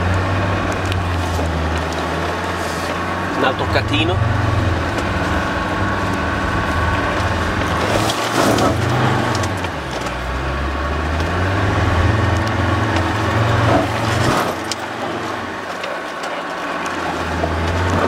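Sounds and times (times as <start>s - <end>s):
vehicle engine labouring: 0.0s - 18.0s.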